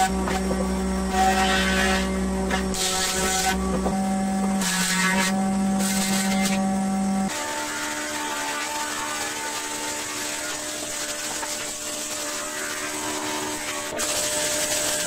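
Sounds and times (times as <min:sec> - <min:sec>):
blades planing wood: 0:00.0 - 0:15.0
jointer motor hum: 0:00.0 - 0:15.0.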